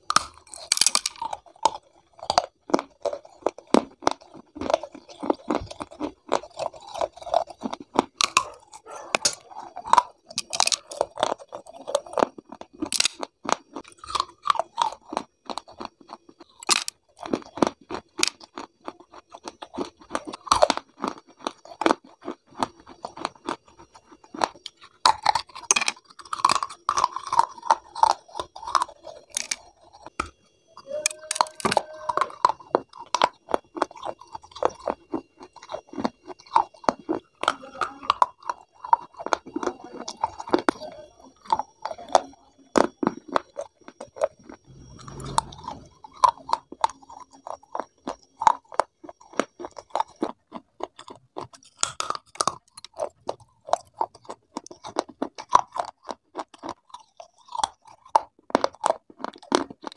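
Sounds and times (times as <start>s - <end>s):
crunching and chewing clay: 0.0s - 59.9s.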